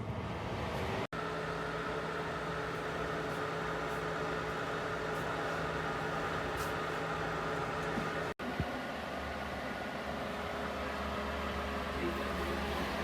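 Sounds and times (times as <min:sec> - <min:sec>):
space heater fan whirring: 0:00.1 - 0:13.0.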